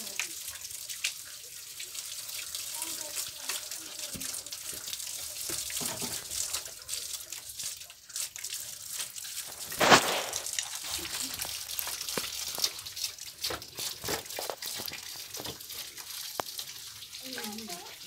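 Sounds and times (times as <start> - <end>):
small water drips: 0.0 - 18.0
water trickling and splashing: 0.0 - 18.0.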